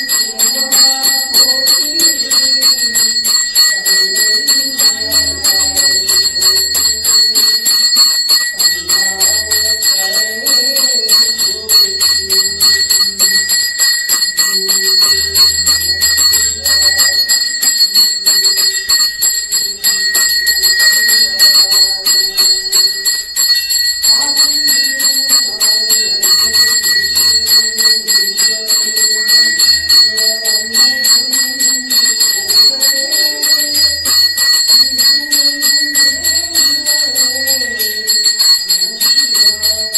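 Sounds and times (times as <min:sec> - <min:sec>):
hand bell ringing rapidly: 0:00.0 - 0:39.9.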